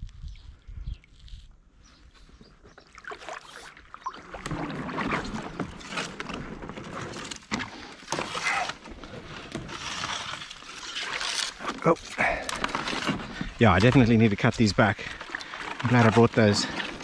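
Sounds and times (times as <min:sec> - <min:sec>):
paddle strokes splashing: 0:02.8 - 0:17.0.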